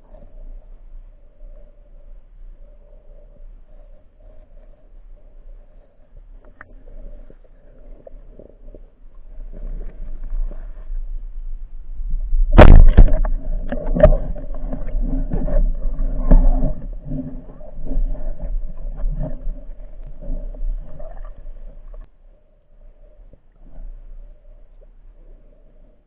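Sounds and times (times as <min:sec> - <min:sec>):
water sloshing around camera: 0:00.0 - 0:26.0.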